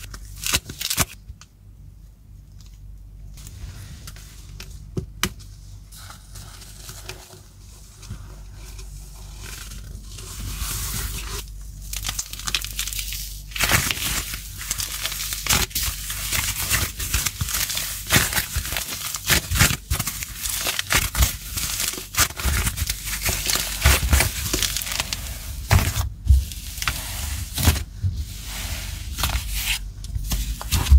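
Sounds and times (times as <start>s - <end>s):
clay crackling and crunching: 5.9s - 30.9s.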